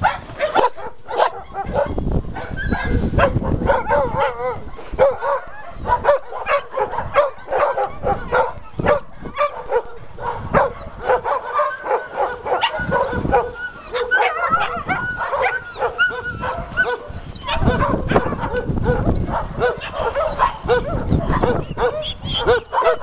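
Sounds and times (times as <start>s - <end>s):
dogs barking and yipping: 0.0s - 23.0s
dogs whining: 0.0s - 23.0s.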